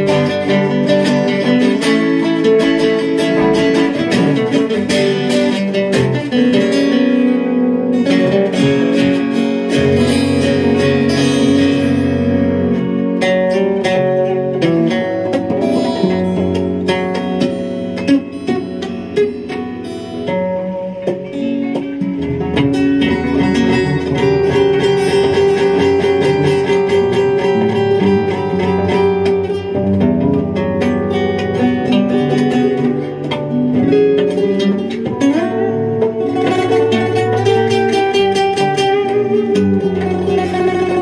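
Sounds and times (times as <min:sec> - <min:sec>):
flamenco guitars jamming: 0:00.0 - 0:41.0.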